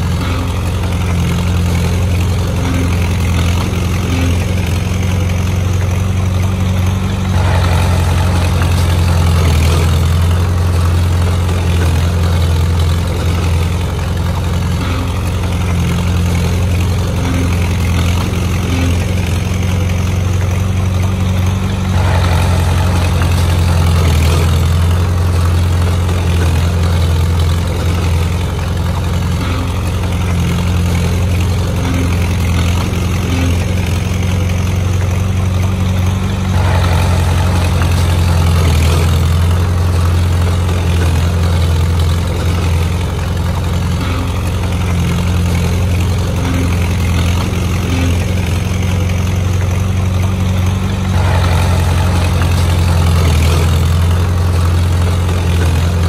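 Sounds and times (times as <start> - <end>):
heavy machine engine humming: 0.0 - 56.0.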